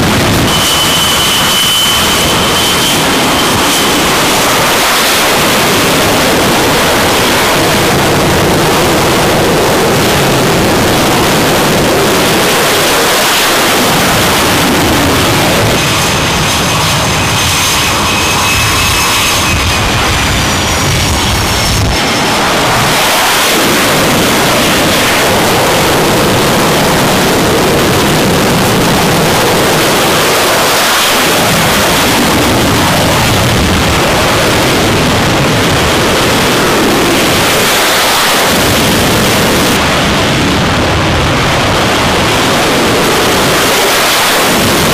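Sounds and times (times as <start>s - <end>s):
jet engines roaring: 0.0s - 44.9s.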